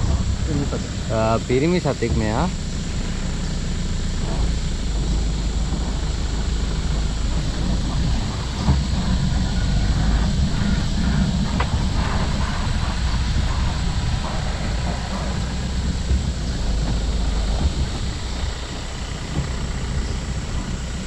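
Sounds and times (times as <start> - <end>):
jeep engine low rumble: 0.0 - 21.0.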